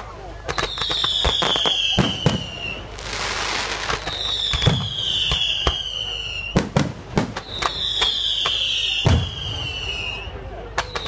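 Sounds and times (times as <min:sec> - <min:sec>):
fireworks bangs: 0:00.0 - 0:11.0
fireworks whistles: 0:00.4 - 0:11.0.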